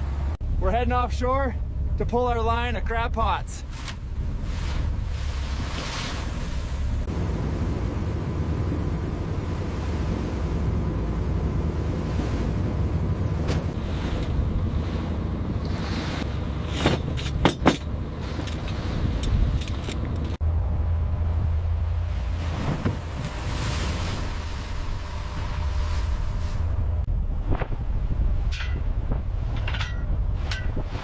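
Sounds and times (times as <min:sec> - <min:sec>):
boat engine rumbling: 0:00.0 - 0:31.0
waves: 0:00.0 - 0:31.0
wind: 0:00.0 - 0:31.0.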